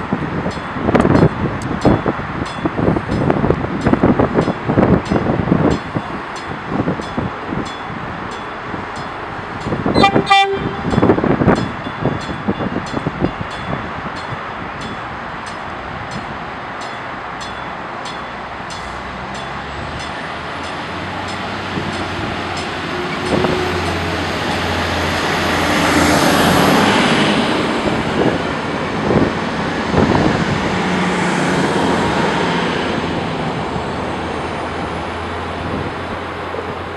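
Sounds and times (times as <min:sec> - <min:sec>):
train wheels clacking over track: 0:00.0 - 0:35.0
diesel train engine humming: 0:00.0 - 0:36.9.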